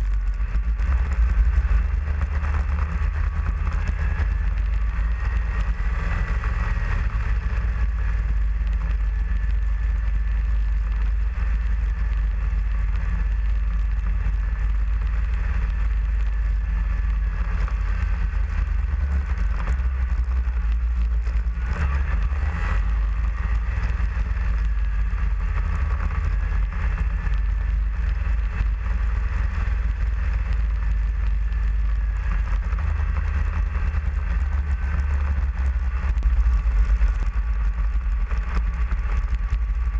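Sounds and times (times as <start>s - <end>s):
snowmobile engine whine and rumble: 0.0s - 39.9s.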